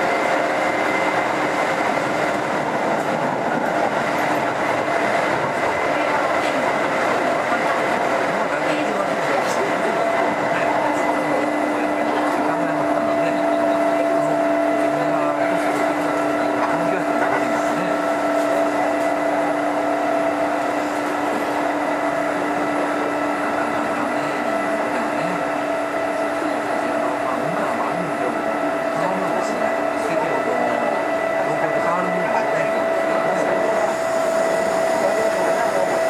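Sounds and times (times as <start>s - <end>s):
electric train whine and hum: 0.0s - 36.0s.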